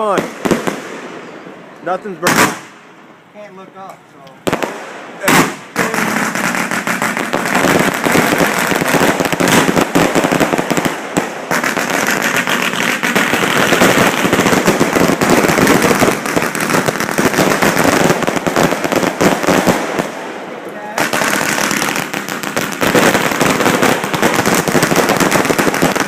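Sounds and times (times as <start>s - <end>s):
fireworks bangs and bursts: 0.0s - 1.4s, 2.2s - 2.8s, 4.4s - 26.0s.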